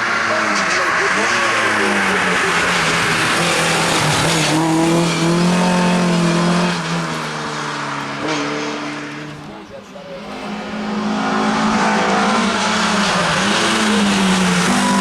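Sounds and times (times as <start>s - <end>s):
rally car engine passing at high revs: 0.0s - 15.0s.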